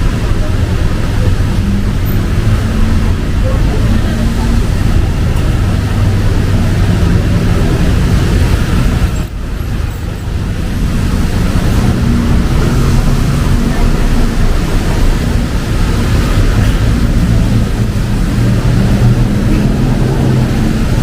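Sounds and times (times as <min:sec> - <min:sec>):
car and bus engines: 0:00.0 - 0:21.0
rain hissing on wet road: 0:00.0 - 0:21.0.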